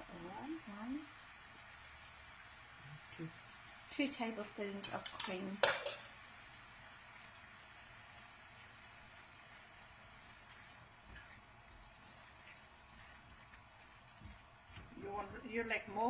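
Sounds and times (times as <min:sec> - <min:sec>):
sauce sizzling in a frying pan: 0:00.0 - 0:16.0.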